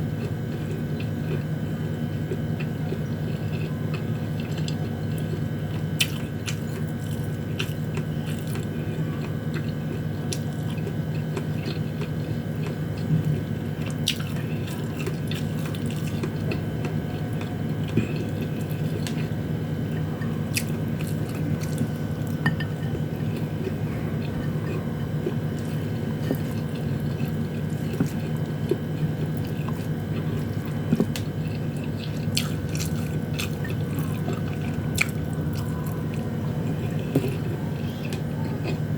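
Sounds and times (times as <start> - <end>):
low background hum: 0.0 - 38.9
close chewing: 0.2 - 38.9.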